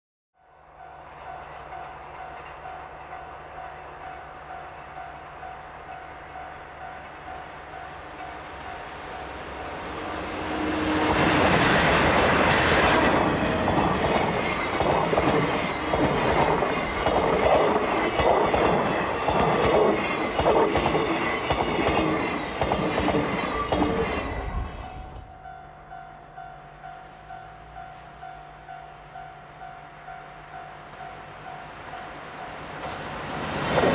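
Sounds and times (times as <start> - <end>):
train wheels clattering on rails: 1.2 - 25.6, 30.8 - 33.9.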